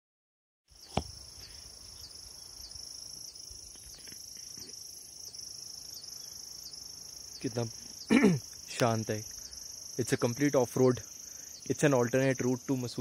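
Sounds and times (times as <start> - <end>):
high-pitched insect chorus: 0.7 - 13.0.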